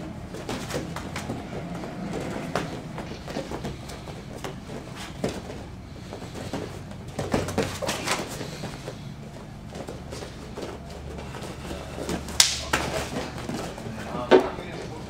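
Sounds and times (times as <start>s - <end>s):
bare feet on mat: 0.0s - 14.5s
steady low hum: 0.0s - 15.0s.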